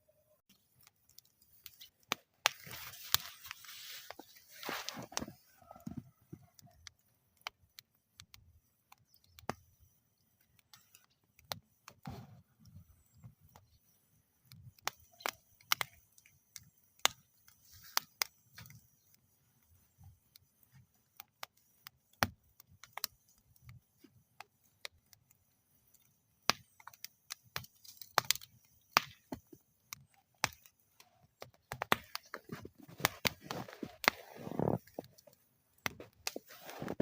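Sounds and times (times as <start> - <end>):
wood fire crackling: 0.3 - 37.0.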